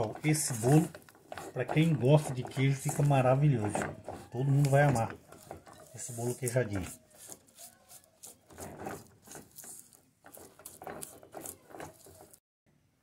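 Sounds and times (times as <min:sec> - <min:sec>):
spatula scraping sugar in pan: 0:00.0 - 0:12.4.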